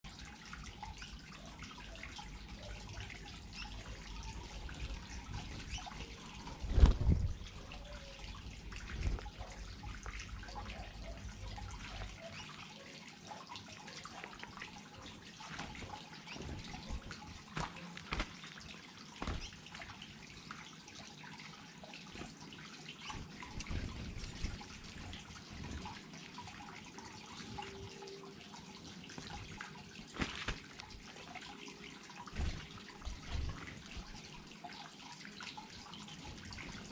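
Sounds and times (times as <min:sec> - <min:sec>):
small waterfall trickling: 0:00.0 - 0:36.9
water drips: 0:00.0 - 0:36.9.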